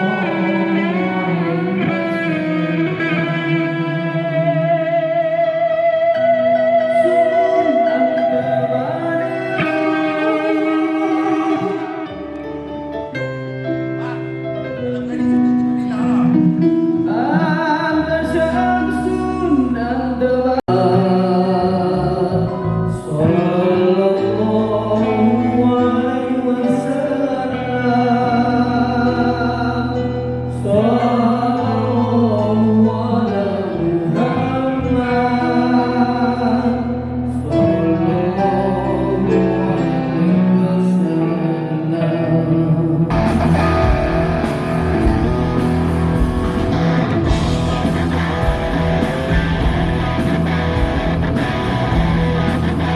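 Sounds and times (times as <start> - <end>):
live band playing rock: 0.0 - 21.9, 22.5 - 52.9.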